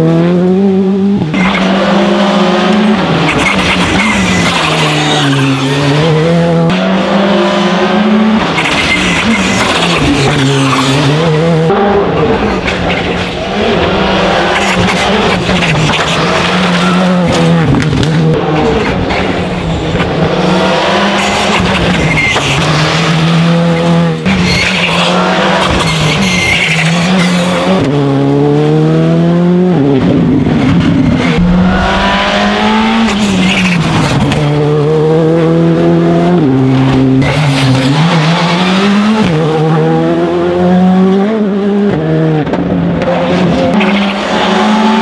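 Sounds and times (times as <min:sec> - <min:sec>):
tyre and road noise: 0:00.0 - 0:41.1
rally car engine revving: 0:00.0 - 0:45.0.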